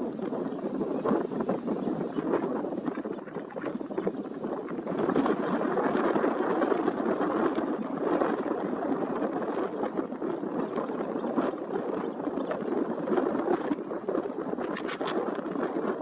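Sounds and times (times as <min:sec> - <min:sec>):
gusty wind rushing: 0:00.0 - 0:16.0.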